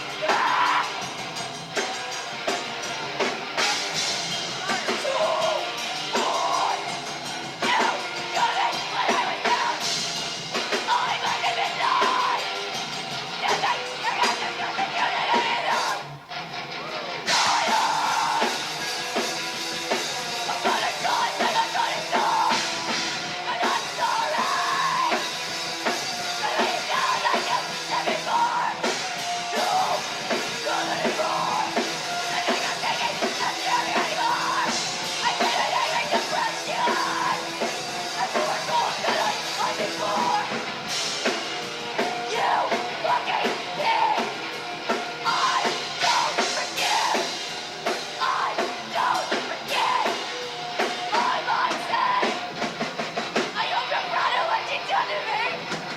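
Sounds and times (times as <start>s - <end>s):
punk metal band playing live: 0.0s - 55.9s
yelled vocals: 0.0s - 55.9s.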